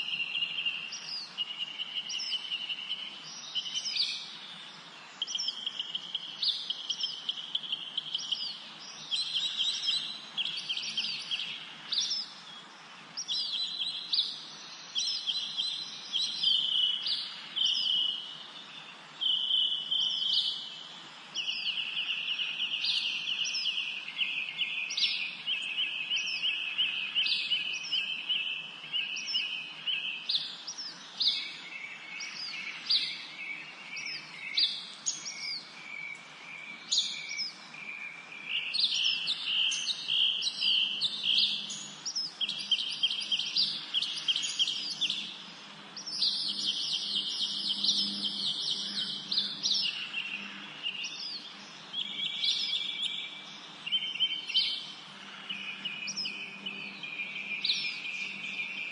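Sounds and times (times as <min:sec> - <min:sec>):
faint background hiss: 0:00.0 - 0:58.9
songbirds trilling: 0:00.0 - 0:58.9.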